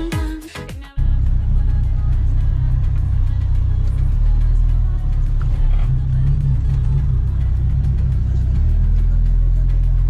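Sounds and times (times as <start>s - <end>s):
engine and road rumble: 1.0s - 10.0s.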